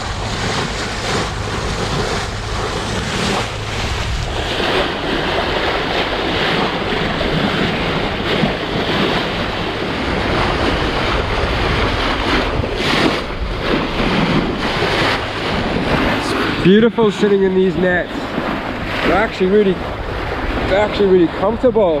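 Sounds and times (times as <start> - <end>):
waves washing along a hull: 0.0 - 22.0
wind buffeting microphone: 0.0 - 22.0.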